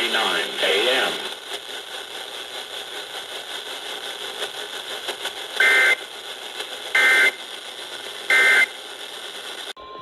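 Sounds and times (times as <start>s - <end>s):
radio static hiss: 0.0s - 9.8s
alternating data tones burst: 0.0s - 10.0s.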